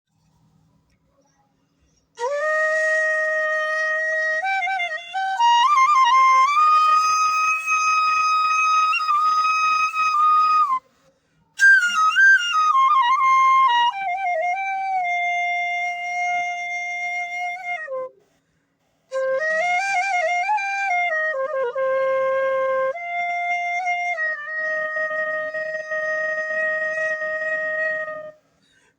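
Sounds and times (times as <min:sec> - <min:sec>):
bamboo flute melody: 0:02.1 - 0:11.0, 0:11.6 - 0:18.3, 0:19.1 - 0:28.4.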